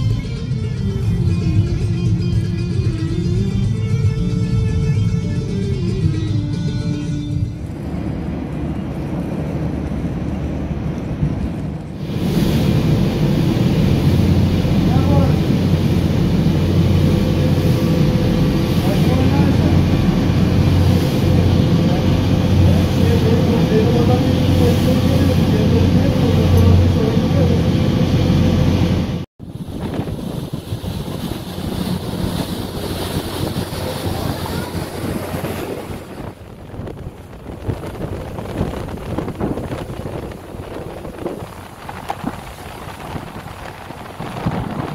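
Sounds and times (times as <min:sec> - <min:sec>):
ship engine drone: 0:00.0 - 0:44.9
wind rushing: 0:07.5 - 0:44.9
wake churning: 0:07.7 - 0:44.9.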